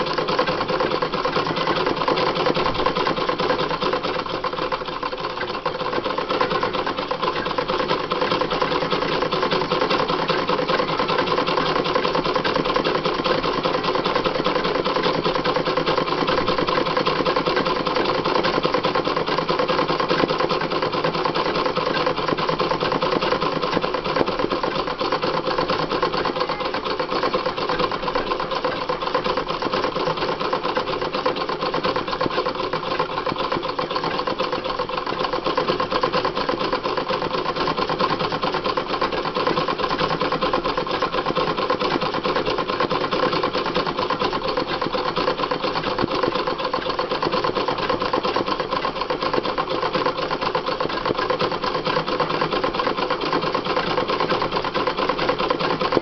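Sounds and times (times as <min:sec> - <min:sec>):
sewing machine running fast: 0:00.0 - 0:56.0.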